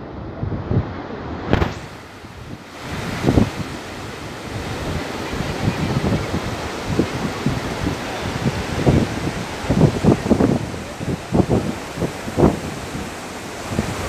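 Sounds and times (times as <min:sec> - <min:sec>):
sea surf washing onto beach: 0:00.0 - 0:14.0
wind buffeting microphone: 0:00.0 - 0:14.0.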